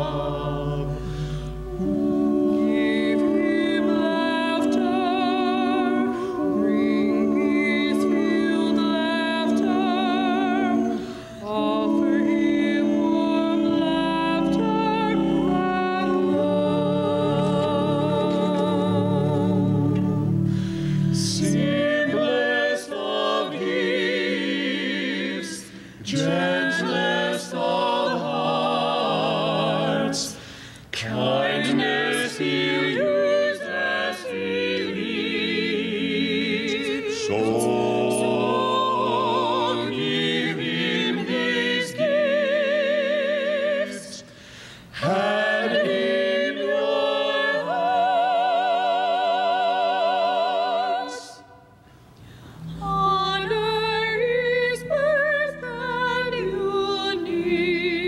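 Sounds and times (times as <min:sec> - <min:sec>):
vocal quartet singing in harmony: 0:00.0 - 0:58.0.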